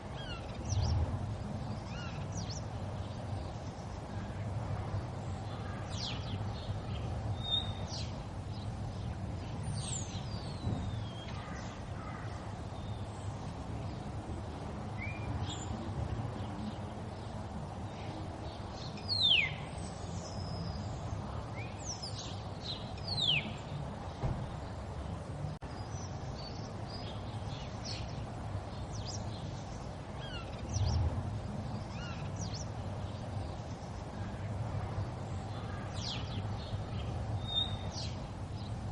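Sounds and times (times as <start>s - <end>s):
birds chirping: 0.0s - 38.9s
river water running: 0.0s - 38.9s.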